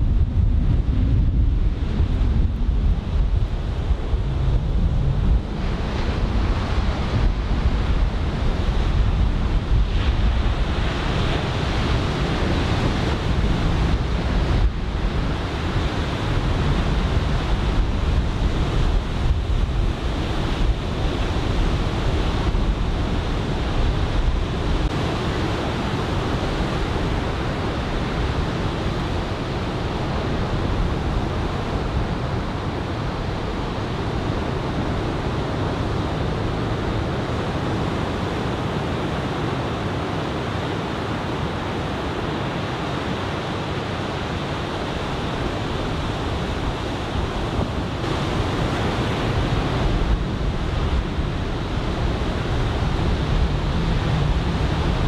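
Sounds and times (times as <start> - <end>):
wind buffeting microphone: 0.0 - 55.0
ocean surf breaking: 1.6 - 55.0.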